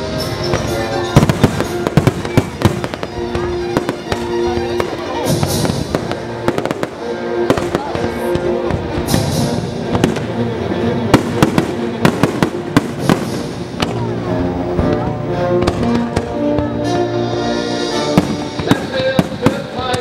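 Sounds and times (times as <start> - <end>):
fireworks bursting: 0.0 - 20.0
music with long held notes: 0.0 - 20.0.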